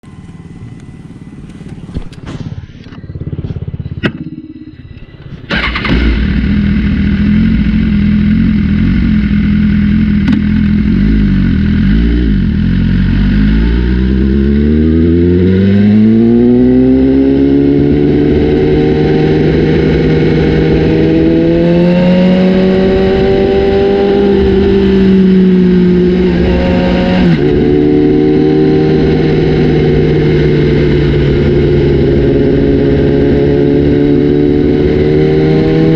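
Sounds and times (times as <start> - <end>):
motorcycle engine idling and revving: 0.0 - 35.9
motorcycle engine starting: 0.0 - 35.9.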